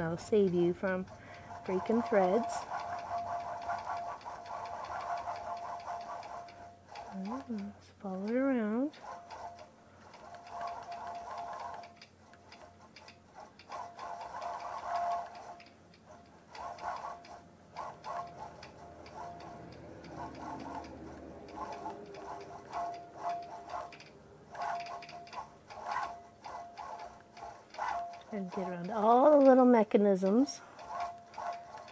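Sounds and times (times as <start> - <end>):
sewing needle clicking rapidly: 0.0 - 31.9
steady motor hum: 0.0 - 31.9.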